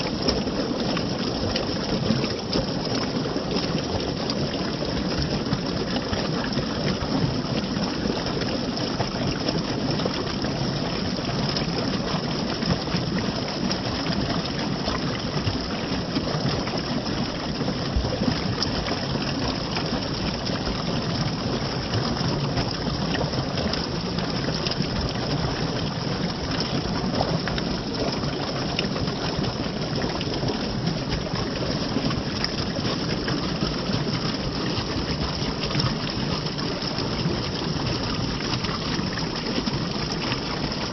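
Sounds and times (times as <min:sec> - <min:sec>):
running water flowing: 0:00.0 - 0:40.9.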